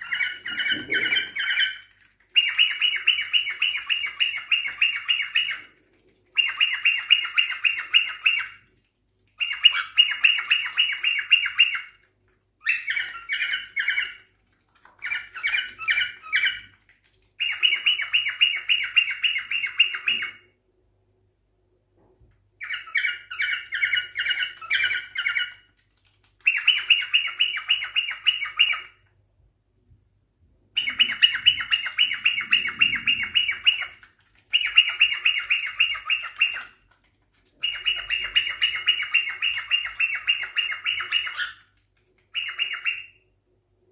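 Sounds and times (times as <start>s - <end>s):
cockatiels chirping: 0.0s - 8.6s, 9.4s - 14.4s, 15.0s - 16.8s, 17.4s - 20.5s, 22.6s - 25.7s, 26.4s - 29.0s, 30.8s - 37.0s, 37.6s - 41.7s, 42.3s - 43.2s.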